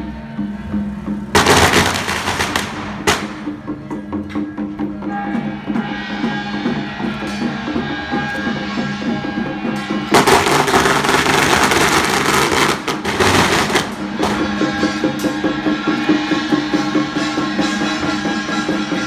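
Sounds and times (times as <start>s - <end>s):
drums and percussion beating: 0.0s - 19.0s.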